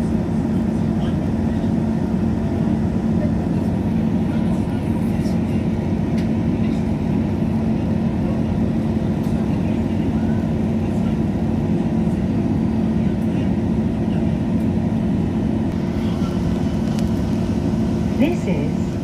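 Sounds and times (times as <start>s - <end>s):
train running drone: 0.0s - 19.0s.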